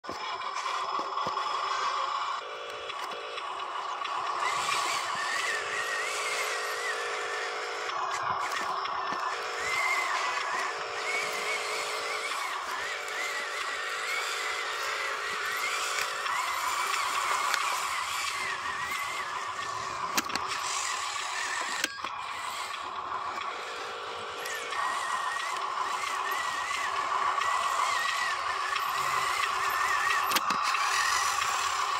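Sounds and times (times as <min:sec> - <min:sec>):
toy truck motor hum: 0:00.0 - 0:31.9
wavering motor whine: 0:00.1 - 0:31.9.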